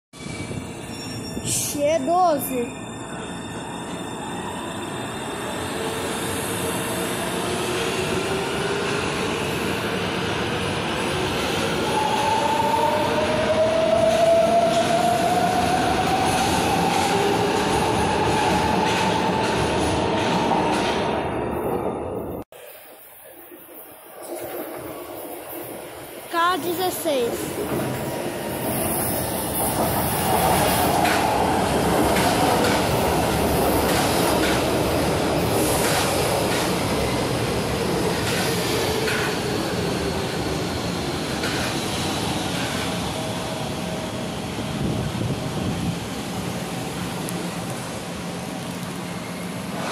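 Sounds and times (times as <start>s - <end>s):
train wheels rumbling on rail: 5.3s - 22.4s, 24.2s - 49.9s.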